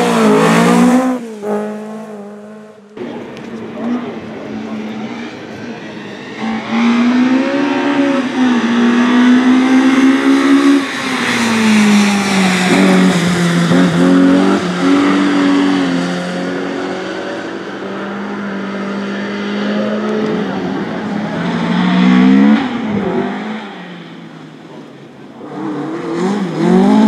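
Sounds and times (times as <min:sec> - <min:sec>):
rally car engine passing by: 0:00.0 - 0:27.0.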